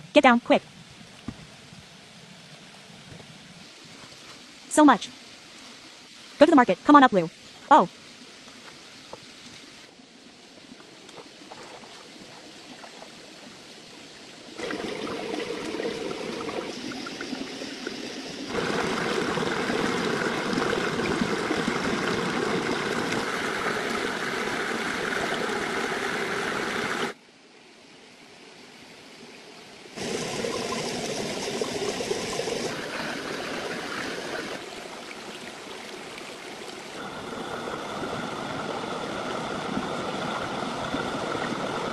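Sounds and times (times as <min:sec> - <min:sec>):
water rushing: 0:01.2 - 0:27.2, 0:29.8 - 0:41.9.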